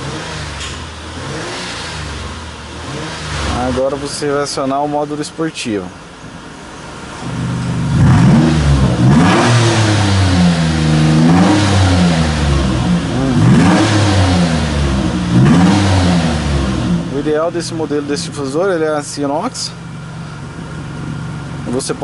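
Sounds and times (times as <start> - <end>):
engine revving: 0.0 - 5.2, 7.2 - 22.0.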